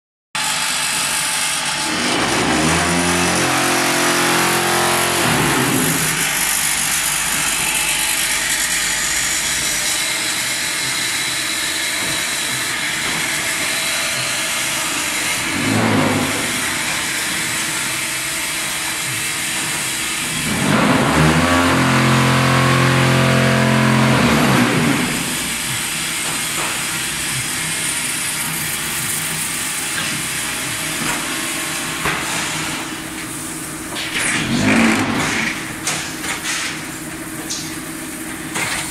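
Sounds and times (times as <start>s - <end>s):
loud pitched machine hum: 0.4s - 38.9s
machinery clatter and whir: 0.4s - 38.9s.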